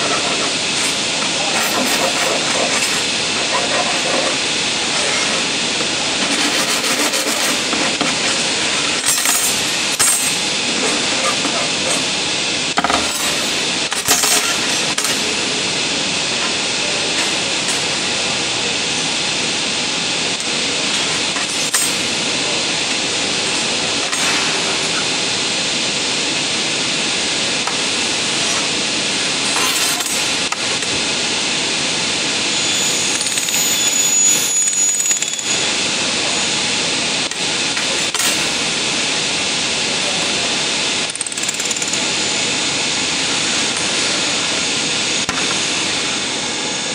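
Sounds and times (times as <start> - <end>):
welding machinery hissing: 0.0 - 46.9.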